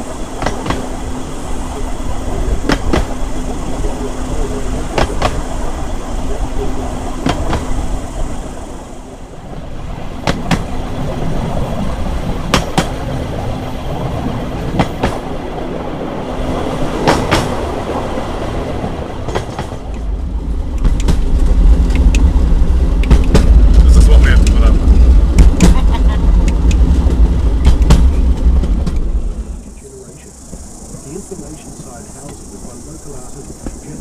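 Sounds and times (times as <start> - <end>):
loud low rumble: 0.0 - 34.0
rail cart rolling rumble: 0.0 - 34.0
wheels clicking on rail joints: 0.0 - 34.0.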